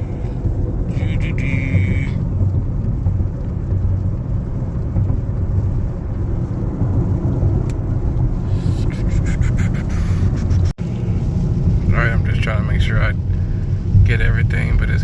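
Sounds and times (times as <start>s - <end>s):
road and tyre rumble in car: 0.0s - 15.0s.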